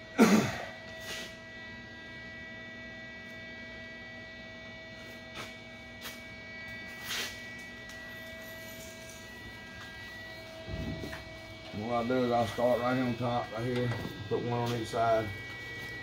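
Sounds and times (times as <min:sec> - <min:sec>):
welder electrical hum: 0:00.0 - 0:16.0.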